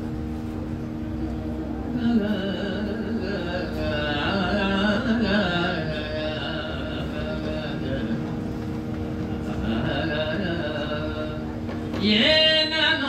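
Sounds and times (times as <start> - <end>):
steady low hum: 0.0 - 13.0
man singing long wavering notes: 1.2 - 13.0.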